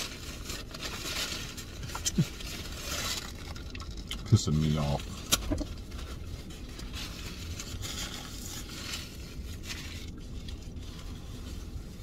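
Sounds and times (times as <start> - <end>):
food packaging rustling: 0.0 - 12.0
low steady rumble: 0.0 - 12.0.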